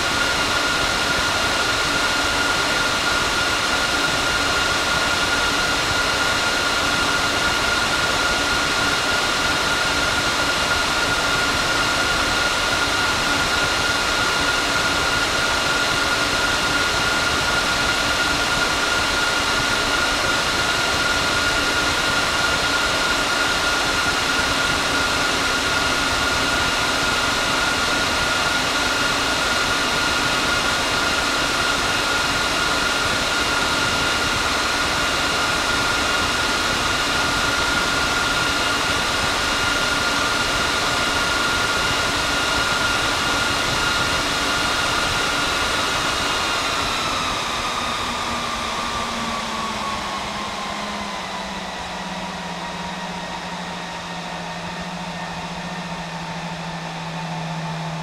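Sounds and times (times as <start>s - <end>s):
server cooling fans whining: 0.0s - 58.0s.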